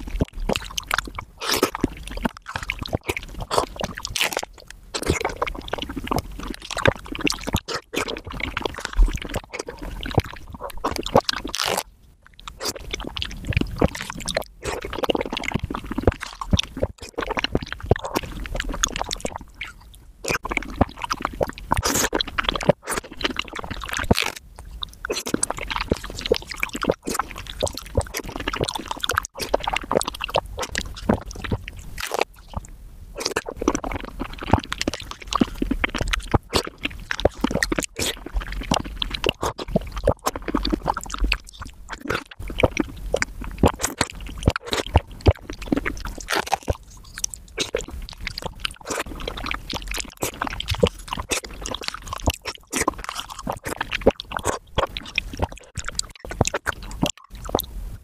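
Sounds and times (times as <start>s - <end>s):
wet squishing and chewing: 0.0s - 57.7s.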